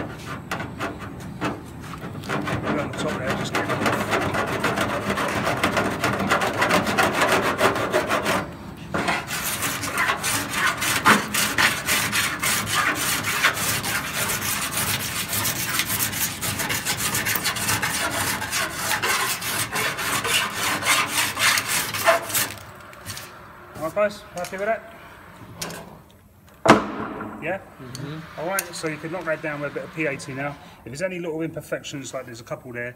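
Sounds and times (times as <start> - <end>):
file scraping metal: 0.0 - 25.8, 27.7 - 30.9.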